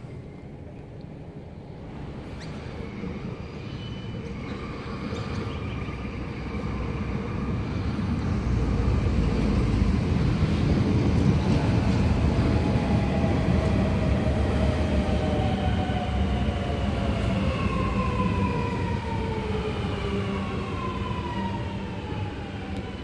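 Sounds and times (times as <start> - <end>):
metro train motors whining: 1.2 - 23.0
train rumble: 1.3 - 23.0.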